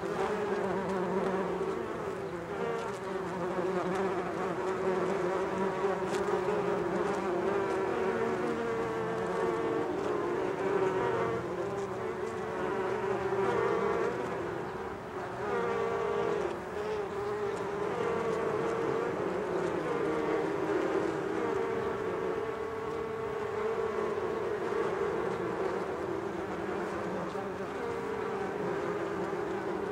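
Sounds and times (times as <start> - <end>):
bees buzzing: 0.0 - 29.9.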